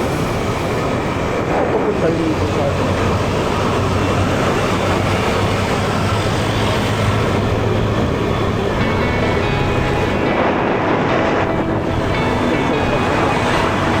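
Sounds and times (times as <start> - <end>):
road and wind noise: 0.0 - 14.0
motorcycle engine cruising: 2.3 - 14.0.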